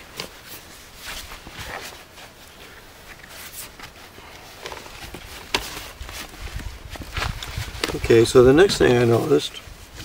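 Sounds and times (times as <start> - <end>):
fabric rustling: 0.0 - 8.2.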